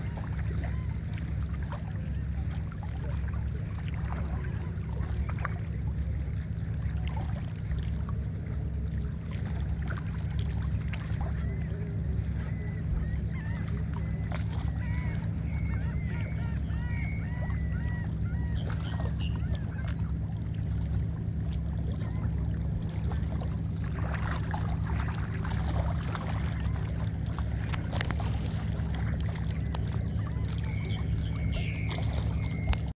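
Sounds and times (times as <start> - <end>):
seabirds calling: 0.0 - 7.0, 8.8 - 32.9
boat motor drone: 0.0 - 33.0.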